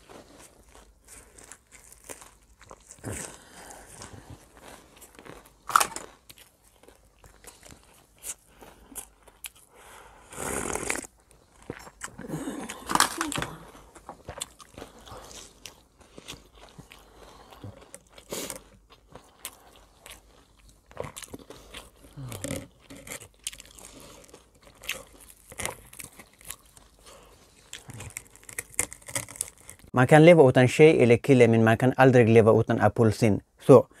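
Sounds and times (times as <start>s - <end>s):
chewing and crunching food: 0.0s - 29.9s.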